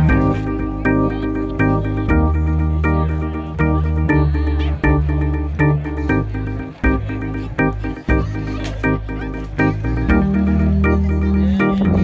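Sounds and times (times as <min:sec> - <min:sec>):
keyboard chords over a beat: 0:00.0 - 0:12.0.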